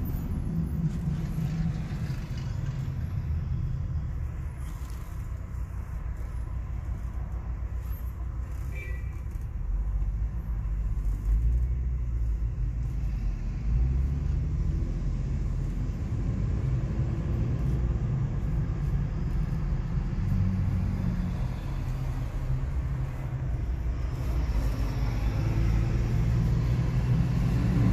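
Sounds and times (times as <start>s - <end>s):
car engine and road rumble: 0.0s - 27.9s.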